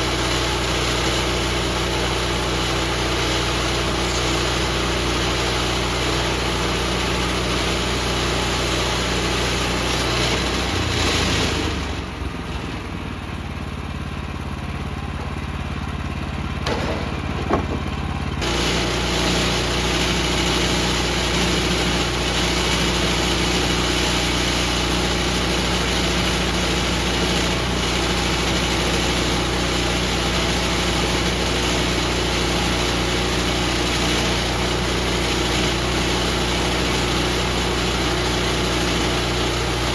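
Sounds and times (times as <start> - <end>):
sawmill gasoline engine running: 0.0 - 39.9.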